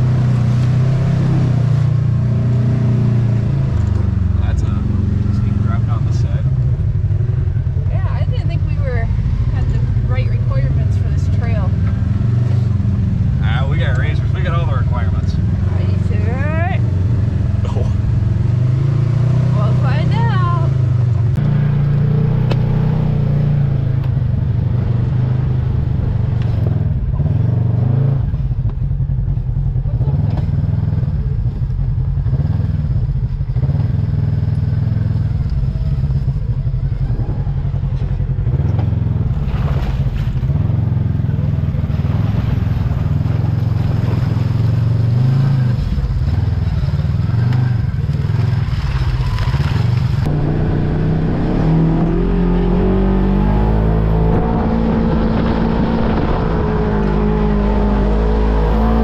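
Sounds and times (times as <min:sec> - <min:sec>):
engine crackle: 0:00.0 - 0:59.0
utility vehicle engine running: 0:00.0 - 0:59.0.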